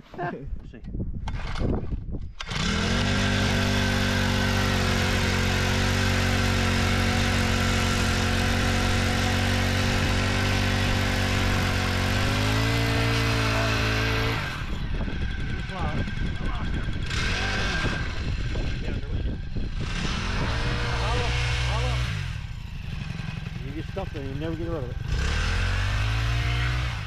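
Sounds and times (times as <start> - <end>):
ice auger engine: 2.4 - 27.0.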